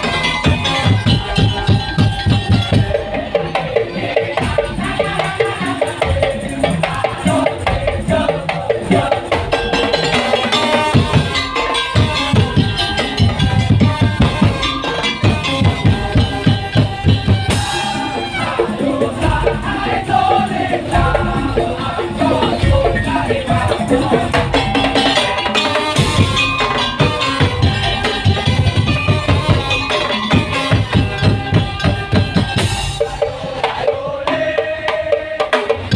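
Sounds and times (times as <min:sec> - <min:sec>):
percussion ensemble playing: 0:00.0 - 0:35.9
pitched instruments: 0:00.0 - 0:35.9.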